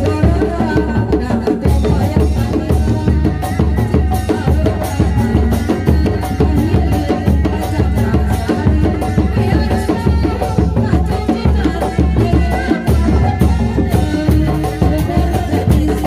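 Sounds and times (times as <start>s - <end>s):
large drums beaten fast: 0.0s - 16.0s.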